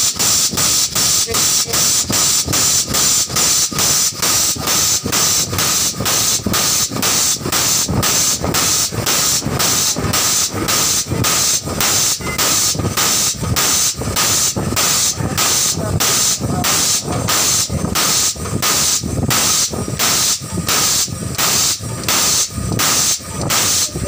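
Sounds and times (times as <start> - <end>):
air pump hissing in pulses: 0.0 - 24.0.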